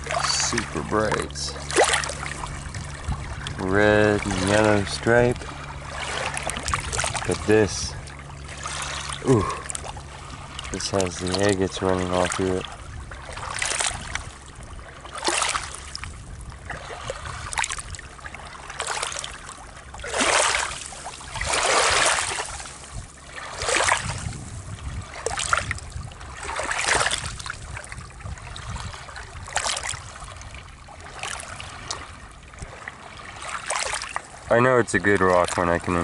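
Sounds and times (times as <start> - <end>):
low steady rumble: 0.0 - 36.0
small waves lapping against rocks: 0.0 - 36.0.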